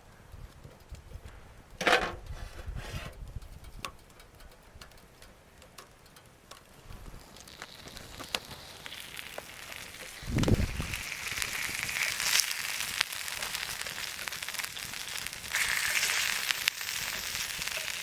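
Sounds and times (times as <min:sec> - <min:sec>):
campfire crackling: 0:03.2 - 0:18.0.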